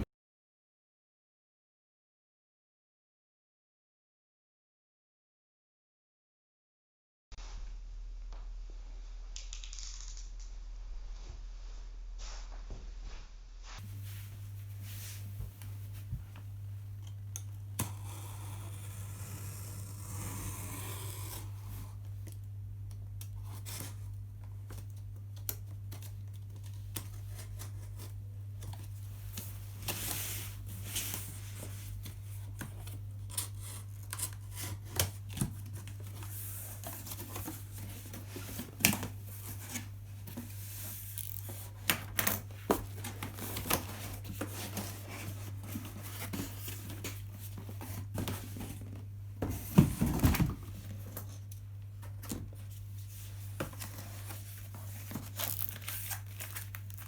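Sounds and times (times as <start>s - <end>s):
steady low hum: 7.4s - 55.7s.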